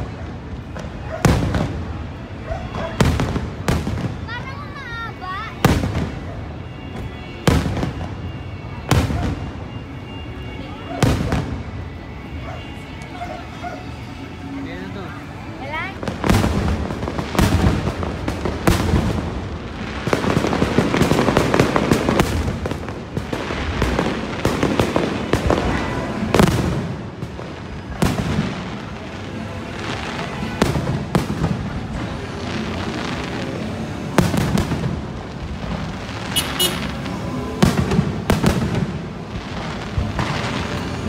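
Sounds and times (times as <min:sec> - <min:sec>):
crackling fireworks stars: 0:00.0 - 0:41.0.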